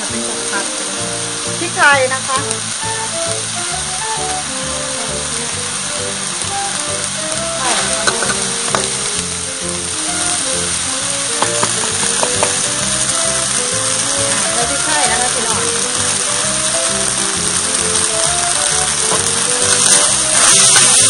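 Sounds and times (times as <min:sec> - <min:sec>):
background music: 0:00.0 - 0:21.0
meat sizzling in a wok: 0:00.0 - 0:21.0.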